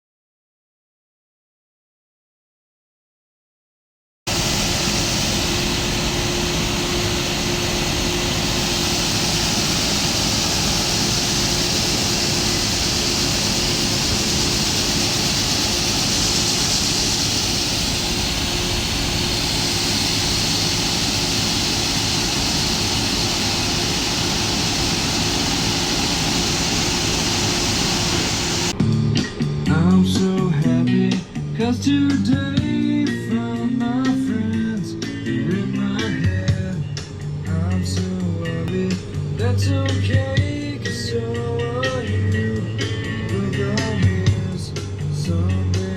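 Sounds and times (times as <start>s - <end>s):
farm machinery engine drone: 4.3s - 30.6s, 35.4s - 45.9s
machine and air noise: 4.3s - 33.0s, 34.7s - 45.9s.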